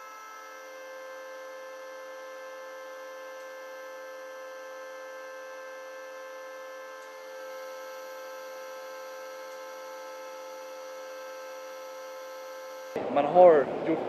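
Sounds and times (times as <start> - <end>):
steady machinery hum: 0.0 - 14.0.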